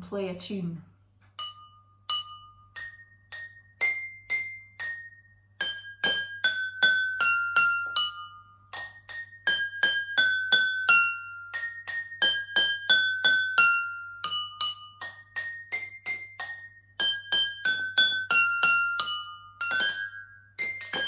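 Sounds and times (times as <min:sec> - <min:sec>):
water glasses struck ringing: 0:01.4 - 0:21.0.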